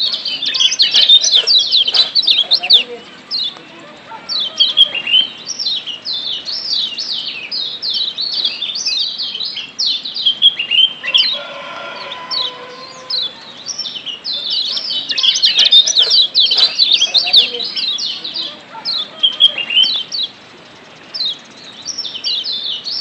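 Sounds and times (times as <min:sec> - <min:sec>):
bird chirping chatter: 0:00.0 - 0:23.0.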